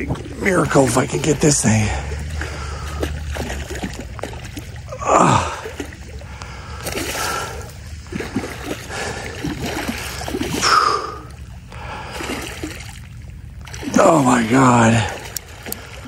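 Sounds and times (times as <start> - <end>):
fish splashing in water: 0.0 - 16.0.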